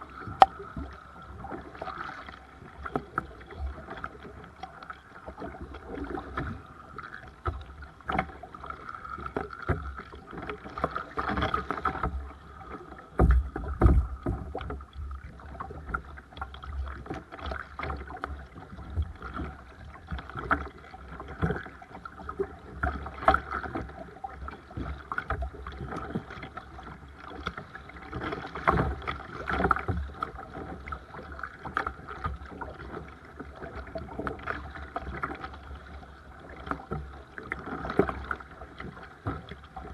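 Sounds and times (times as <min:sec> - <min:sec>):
paddle splashes in water: 0:00.0 - 0:39.9
water slapping against hull: 0:00.0 - 0:39.9.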